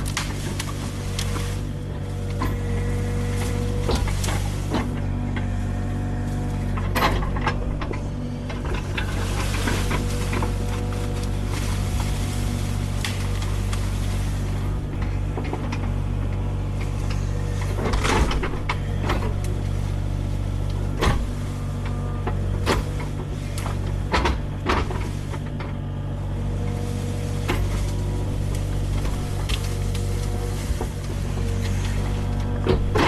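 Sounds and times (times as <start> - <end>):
machine knocks and clunks: 0.0 - 25.8, 26.4 - 33.0
excavator diesel engine running: 0.0 - 33.0.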